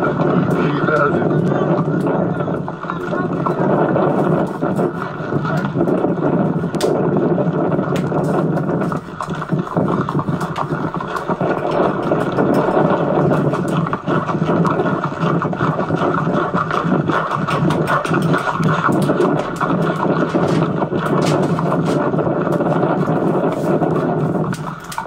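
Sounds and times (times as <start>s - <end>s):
loud steady rushing noise: 0.0s - 25.0s.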